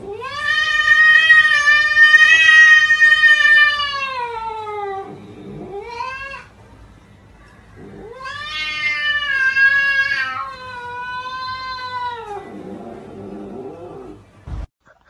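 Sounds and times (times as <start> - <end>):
cat yowling: 0.0 - 6.6, 7.8 - 14.2.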